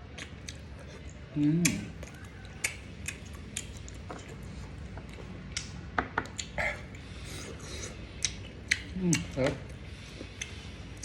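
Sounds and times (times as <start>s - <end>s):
chewing with wet crunches: 0.0s - 11.0s.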